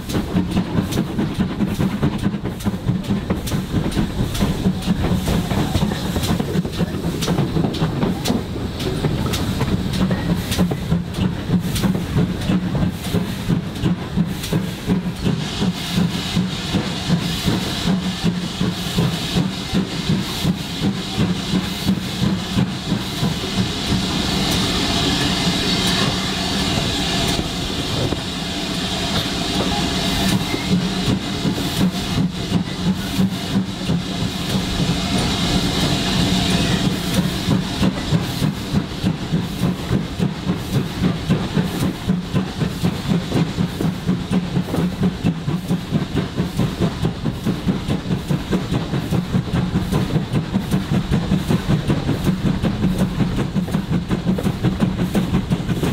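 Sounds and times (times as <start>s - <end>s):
steam hiss: 0.0s - 55.9s
steam locomotive rhythmic beat: 0.0s - 55.9s
train rumble: 0.0s - 55.9s.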